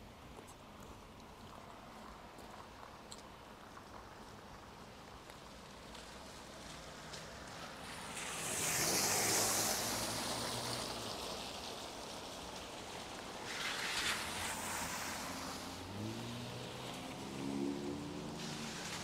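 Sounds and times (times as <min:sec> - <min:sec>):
cars passing on wet road: 0:00.2 - 0:19.0.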